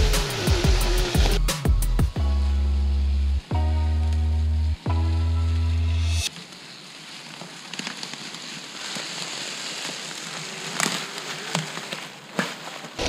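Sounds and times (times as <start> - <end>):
dry leaves crunching under tyres: 0.0 - 13.0.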